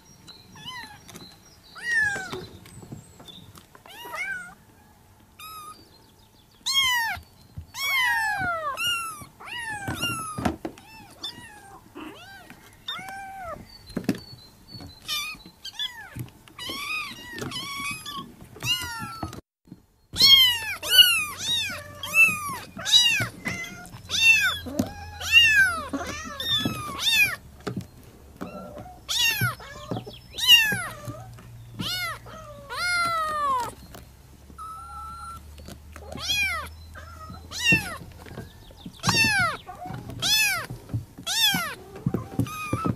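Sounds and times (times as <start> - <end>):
kittens meowing: 0.5 - 1.2, 1.8 - 2.5, 3.8 - 4.6, 5.4 - 5.8, 6.6 - 13.7, 15.0 - 19.4, 20.2 - 27.4, 28.4 - 33.9, 34.6 - 42.9.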